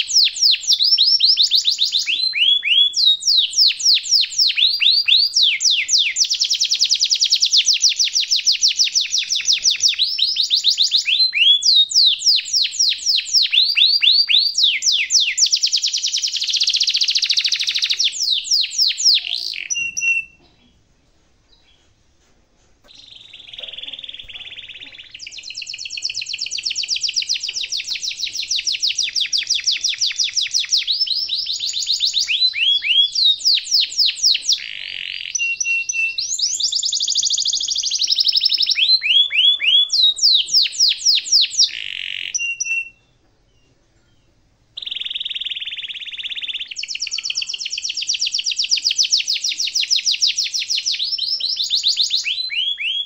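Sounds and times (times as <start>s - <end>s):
canary singing trills: 0.0s - 20.8s, 22.8s - 53.0s.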